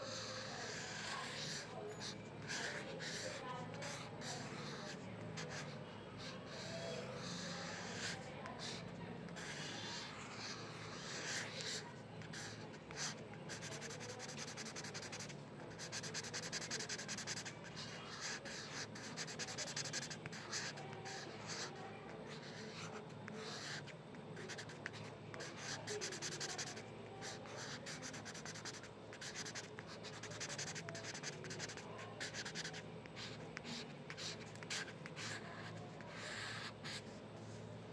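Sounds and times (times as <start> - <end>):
pen scratching on paper: 0.0 - 37.2.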